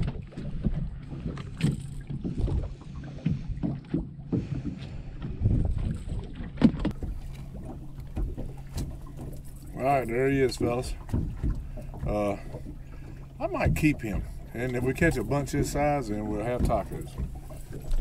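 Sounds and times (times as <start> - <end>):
boat engine hum: 0.0 - 18.0
water splashing against hull: 0.0 - 18.0.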